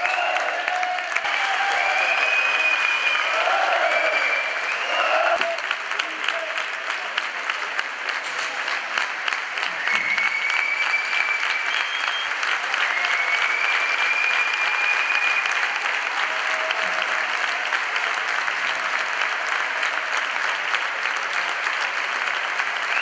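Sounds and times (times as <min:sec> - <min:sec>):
crowd applauding: 0:00.0 - 0:23.0.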